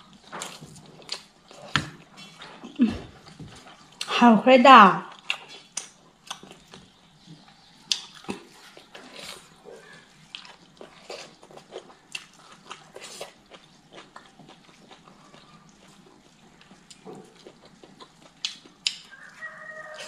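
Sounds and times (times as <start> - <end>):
chewing and lip-smacking: 0.0 - 4.1, 5.1 - 20.0.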